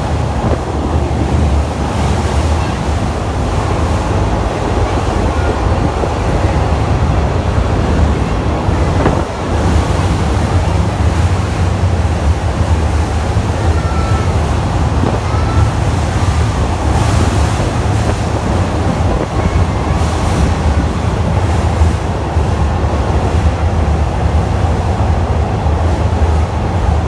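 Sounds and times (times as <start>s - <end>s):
rushing wind: 0.0s - 27.0s
train wheels rumbling on rails: 0.0s - 27.0s.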